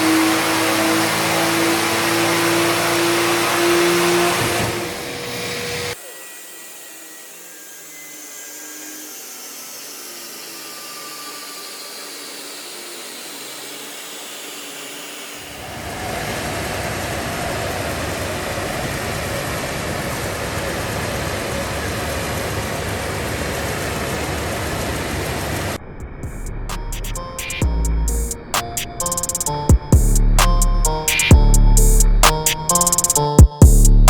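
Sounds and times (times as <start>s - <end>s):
car engine and turbo: 0.0s - 34.0s.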